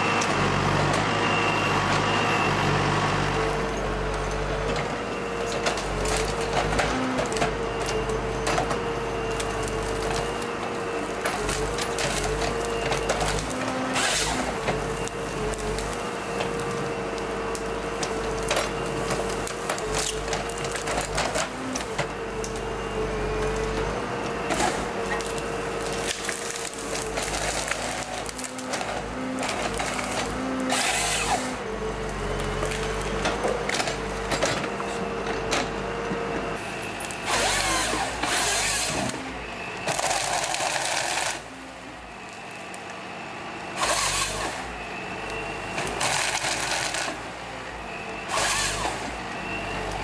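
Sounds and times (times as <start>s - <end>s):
harvester engine and hydraulics whine: 0.0s - 50.0s.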